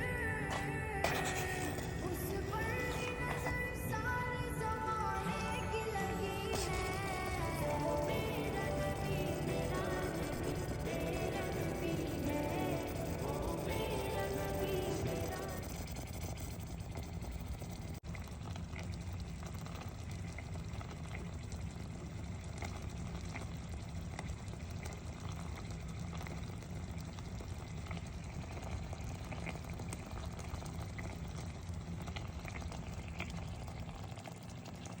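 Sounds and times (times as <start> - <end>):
liquid bubbling at a boil: 0.0 - 35.0.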